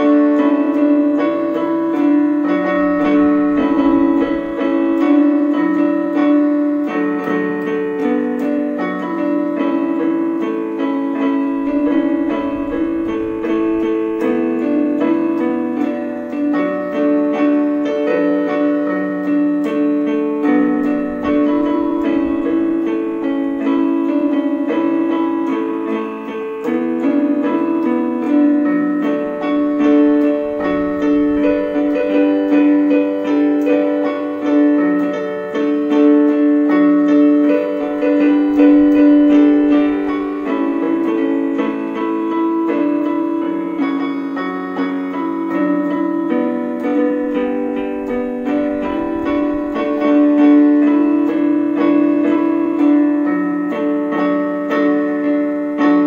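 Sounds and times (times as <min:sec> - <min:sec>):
electronic keyboard melody: 0:00.0 - 0:56.0.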